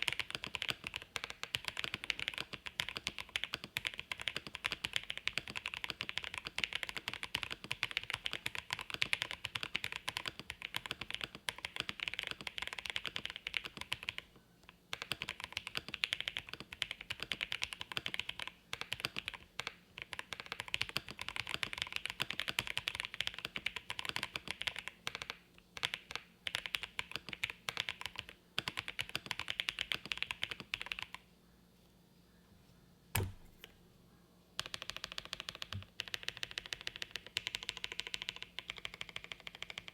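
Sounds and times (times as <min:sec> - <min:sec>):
fast mechanical keyboard typing: 0:00.0 - 0:14.3, 0:14.9 - 0:31.2, 0:34.6 - 0:39.9.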